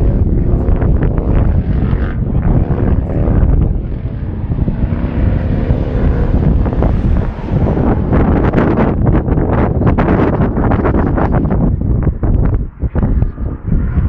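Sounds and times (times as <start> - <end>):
vehicle passing: 0.0 - 14.0
wind buffeting microphone: 0.0 - 14.0.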